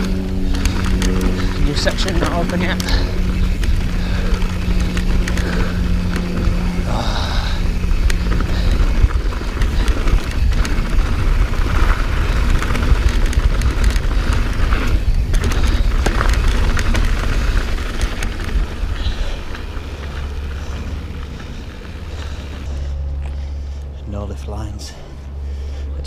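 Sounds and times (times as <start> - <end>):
wind buffeting microphone: 0.0 - 22.7
bike clicks and rattles: 0.0 - 23.9
bike tyre noise on dirt: 0.0 - 23.9.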